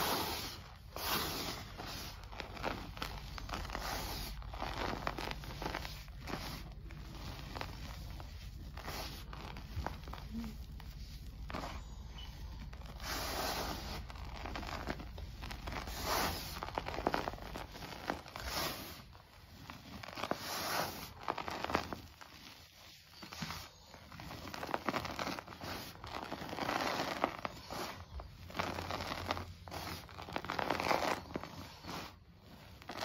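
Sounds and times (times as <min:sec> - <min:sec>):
crunchy crackling powder rustles: 0:00.0 - 0:33.0.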